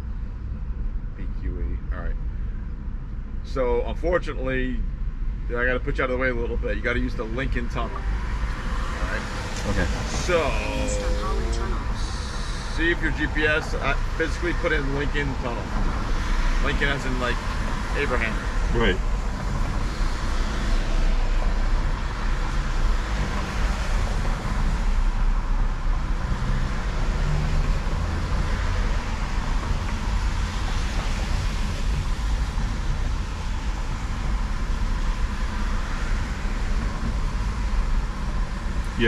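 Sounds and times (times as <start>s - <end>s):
road traffic noise: 0.0s - 39.0s
truck engine rumbling: 0.0s - 39.0s.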